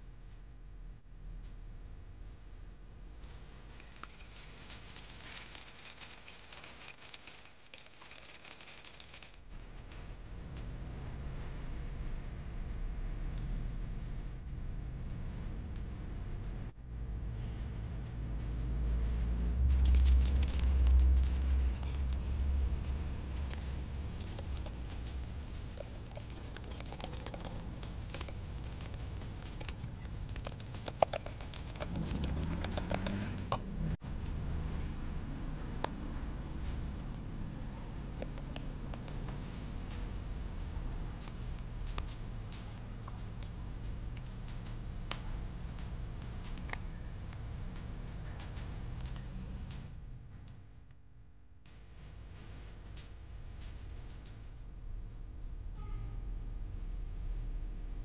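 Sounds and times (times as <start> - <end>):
low rumble: 0.0 - 50.9.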